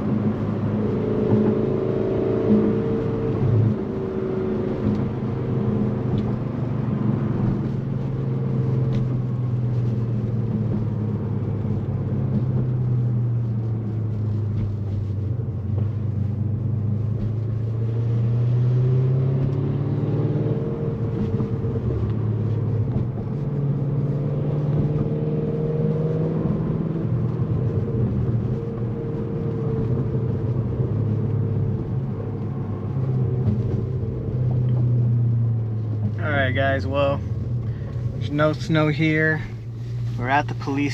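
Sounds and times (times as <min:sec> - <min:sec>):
car engine and exhaust droning: 0:00.0 - 0:40.9.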